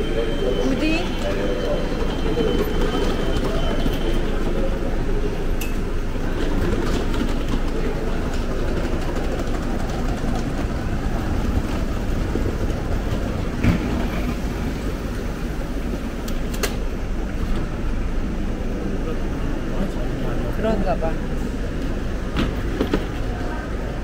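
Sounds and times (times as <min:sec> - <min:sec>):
low rumble of standing train: 0:00.0 - 0:24.0.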